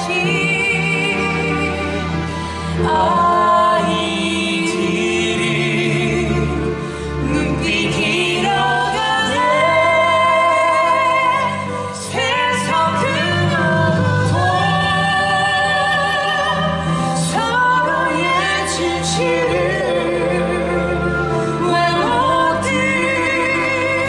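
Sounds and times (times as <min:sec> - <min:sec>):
musical accompaniment: 0:00.0 - 0:24.0
person singing with vibrato: 0:00.0 - 0:24.0.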